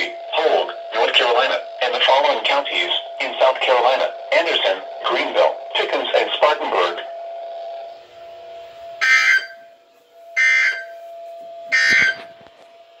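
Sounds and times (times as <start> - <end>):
harsh digital screeches: 0.0 - 9.8, 10.4 - 11.1, 11.7 - 12.4.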